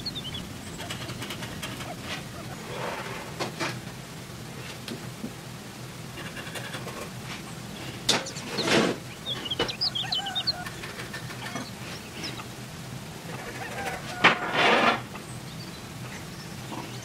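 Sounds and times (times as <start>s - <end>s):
birds chirping: 0.0s - 4.8s, 5.4s - 17.0s.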